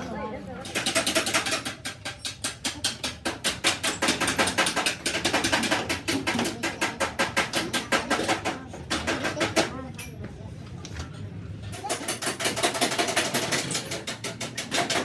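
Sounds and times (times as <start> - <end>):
rapid hammer strikes on metal: 0.6 - 9.8, 11.7 - 15.0.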